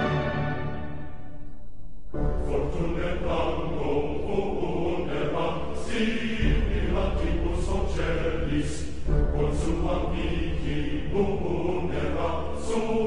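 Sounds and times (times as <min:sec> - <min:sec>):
background music: 0:00.0 - 0:13.0
choir-like chanting voices: 0:02.1 - 0:13.0.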